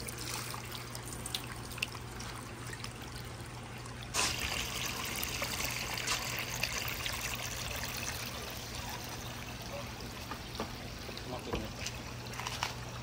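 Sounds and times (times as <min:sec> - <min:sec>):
low steady hum: 0:00.0 - 0:13.0
water trickling down wooden run: 0:00.0 - 0:13.0.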